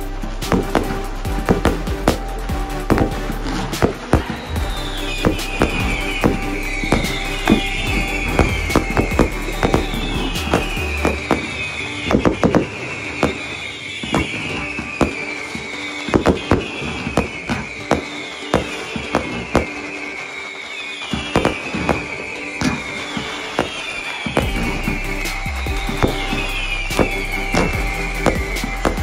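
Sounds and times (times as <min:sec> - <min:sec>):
firework bangs and cracks: 0:00.0 - 0:29.0
music with high falling phrase: 0:00.0 - 0:29.0.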